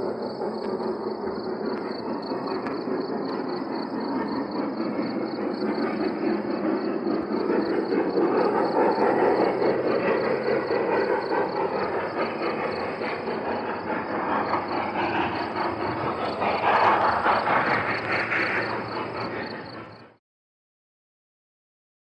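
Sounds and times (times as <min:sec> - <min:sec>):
train rumbling and rattling: 0:00.0 - 0:20.2.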